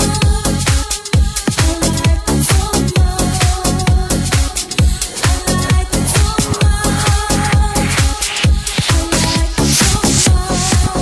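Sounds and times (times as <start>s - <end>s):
deep kick drum: 0.0s - 11.0s
electronic dance music: 0.0s - 11.0s.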